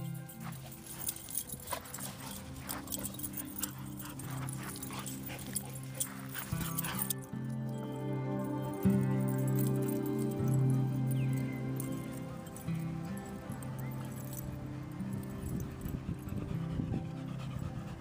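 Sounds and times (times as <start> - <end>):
background music with held notes: 0.0 - 18.0
dogs play-fighting: 0.0 - 18.0.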